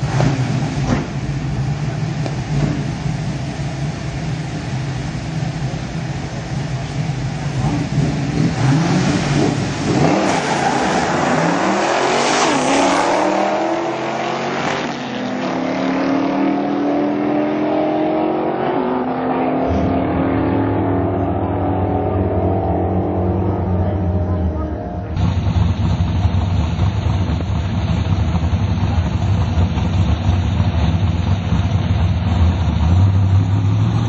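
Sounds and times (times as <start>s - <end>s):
drag racing cars accelerating: 0.0s - 34.0s.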